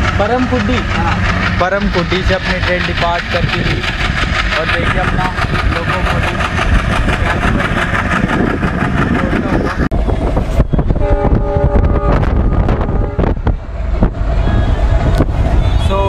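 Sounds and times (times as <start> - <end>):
train coach rumbling: 0.0 - 16.0
wind noise on microphone: 2.9 - 16.0.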